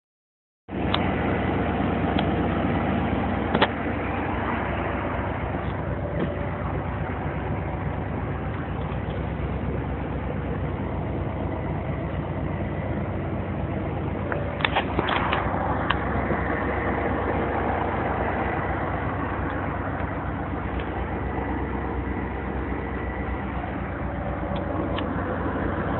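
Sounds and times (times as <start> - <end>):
truck engine idling: 0.7 - 25.9.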